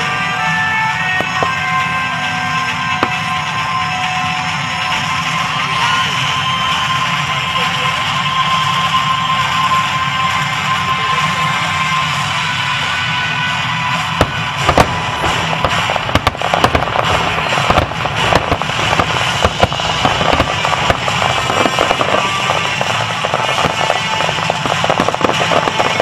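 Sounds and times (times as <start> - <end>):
firework bangs: 0.0 - 26.0
fireworks crackling: 0.0 - 26.0
music playing: 0.0 - 26.0.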